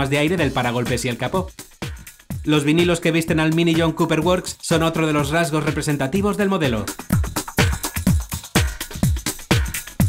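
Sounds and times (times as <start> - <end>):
electronic dance music: 0.0 - 10.0
hi-hats ticking: 0.0 - 10.0
steady kick drum: 0.0 - 10.0.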